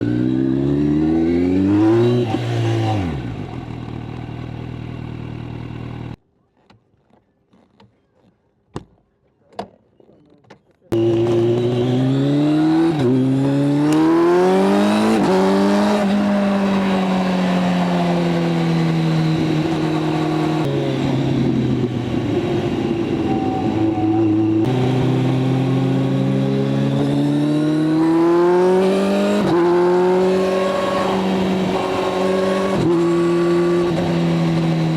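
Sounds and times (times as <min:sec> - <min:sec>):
motorcycle engine revving: 0:00.0 - 0:06.2, 0:10.9 - 0:34.9.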